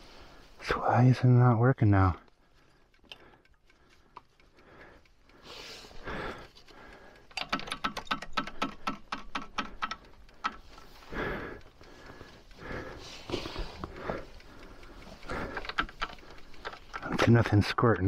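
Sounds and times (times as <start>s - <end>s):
light mechanical clicks: 2.2s - 18.0s.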